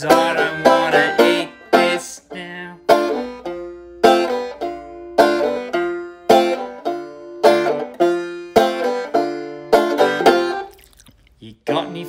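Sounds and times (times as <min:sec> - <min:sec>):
banjo strumming chords: 0:00.0 - 0:10.7, 0:11.4 - 0:12.0.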